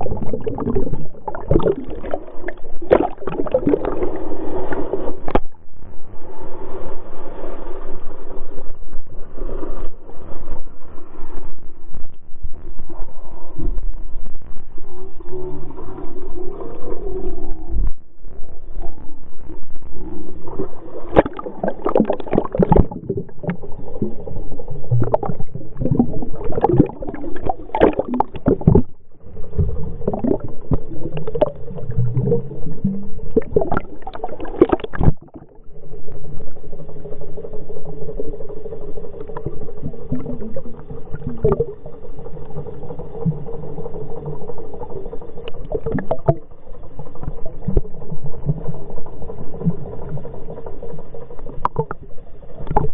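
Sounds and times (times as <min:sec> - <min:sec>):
muffled water sloshing: 0:00.0 - 0:06.7, 0:08.6 - 0:52.9
low hum: 0:00.0 - 0:52.9.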